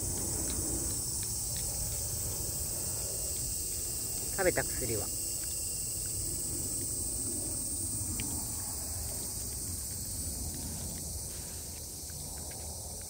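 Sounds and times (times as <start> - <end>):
cats crunching dry food: 0.0 - 13.0
high-pitched insect chorus: 0.0 - 13.0.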